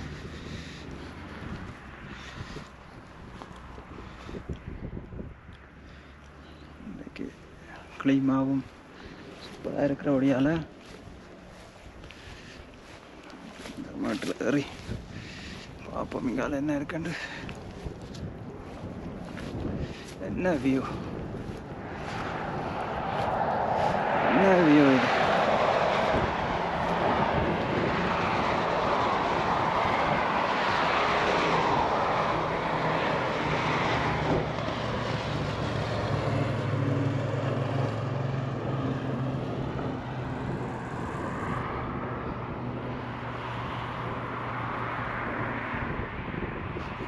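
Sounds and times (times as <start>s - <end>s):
vehicle engines passing: 0.0s - 47.0s.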